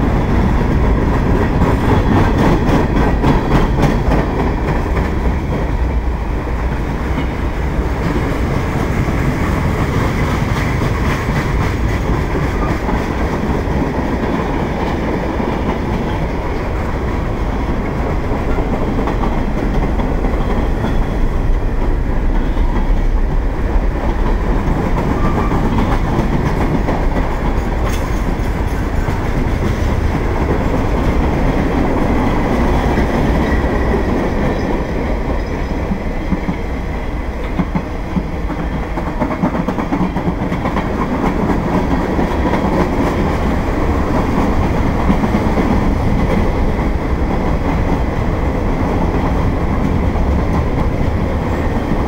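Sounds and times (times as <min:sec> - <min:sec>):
freight train wheels rumbling: 0:00.0 - 0:52.0
wheels clickety-clack on track: 0:00.0 - 0:52.0.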